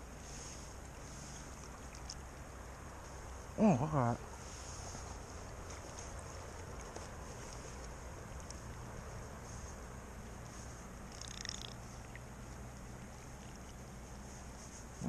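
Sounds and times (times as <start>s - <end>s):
flowing creek water: 0.0s - 15.0s.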